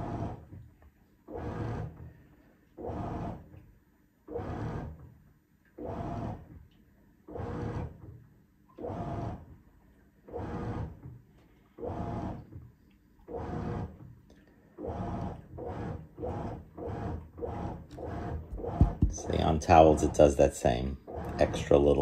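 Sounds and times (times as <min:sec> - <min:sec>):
washing machine agitating water: 0:00.0 - 0:22.0.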